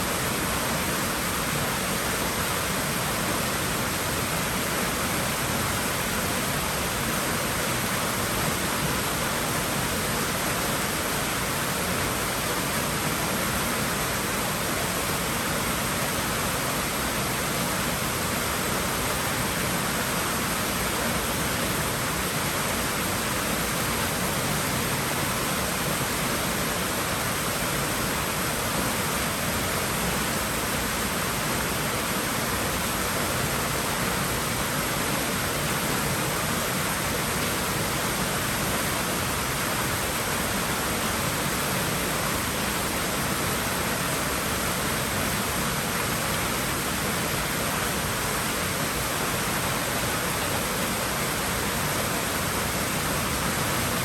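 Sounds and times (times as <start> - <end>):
water rushing and splashing: 0.0 - 54.0.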